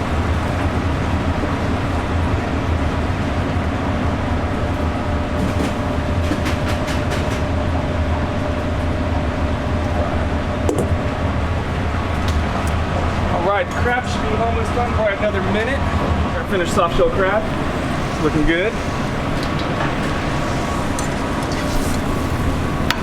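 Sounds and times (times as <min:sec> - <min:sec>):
hum and hiss of kitchen equipment: 0:00.0 - 0:23.0.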